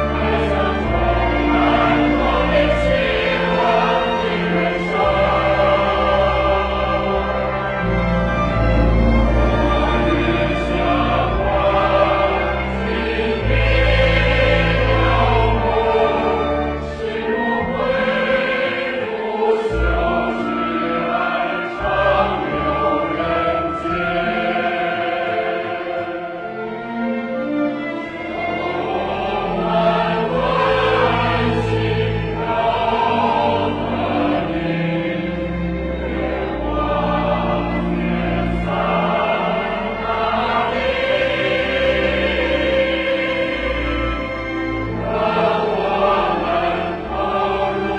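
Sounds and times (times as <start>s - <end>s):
choir singing: 0.0s - 47.9s
instrumental accompaniment: 0.0s - 47.9s.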